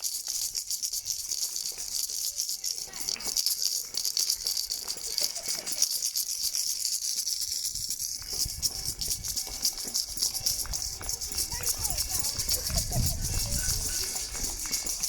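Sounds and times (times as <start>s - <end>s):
rapid rattling clatter: 0.0s - 15.0s.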